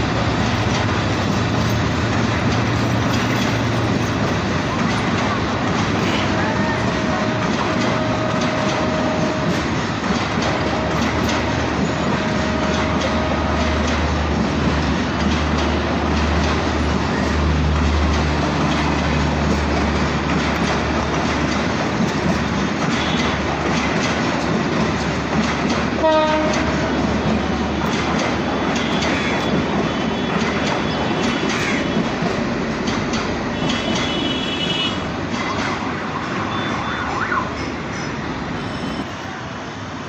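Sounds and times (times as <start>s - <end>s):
train wheels clicking over joints: 0.0s - 36.4s
train rumble: 0.0s - 40.0s.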